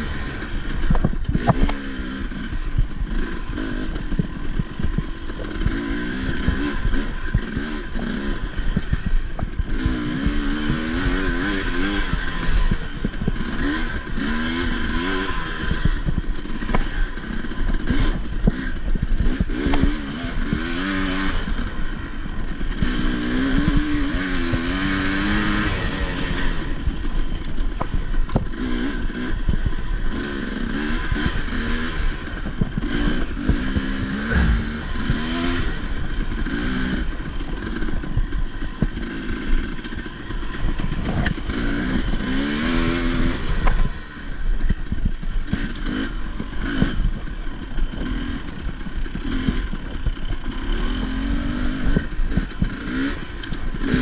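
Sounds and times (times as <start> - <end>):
dirt bike engine revving: 0.0 - 54.0
knocks and clatter from bike: 0.1 - 54.0.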